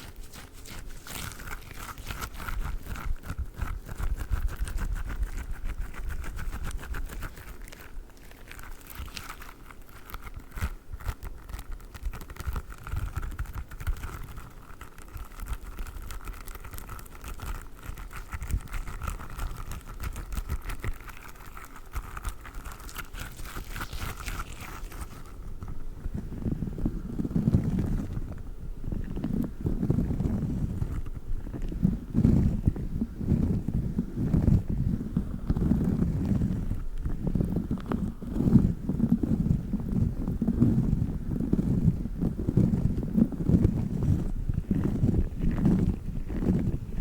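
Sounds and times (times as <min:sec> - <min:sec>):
squishing and crinkling toy: 0:00.0 - 0:47.0.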